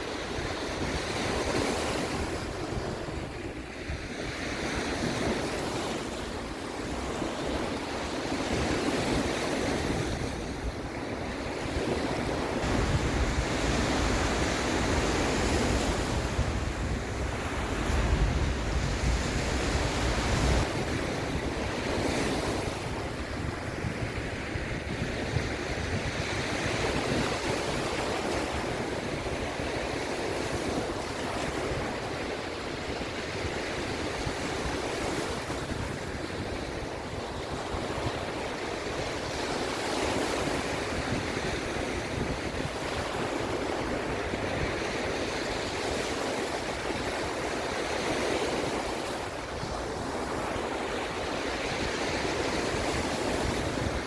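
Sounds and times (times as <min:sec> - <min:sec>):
sea waves washing in: 0:00.0 - 0:54.0
wind buffeting microphone: 0:00.0 - 0:54.0.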